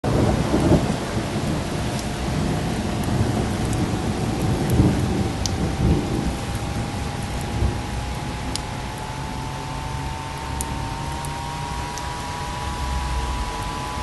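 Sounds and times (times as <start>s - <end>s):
heavy rain: 0.0s - 14.0s
low thunder rumble: 0.0s - 14.0s.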